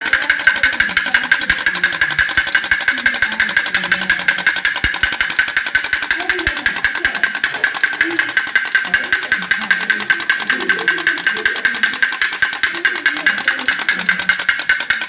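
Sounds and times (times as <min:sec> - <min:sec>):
clockwork mechanism clicking: 0:00.0 - 0:15.0.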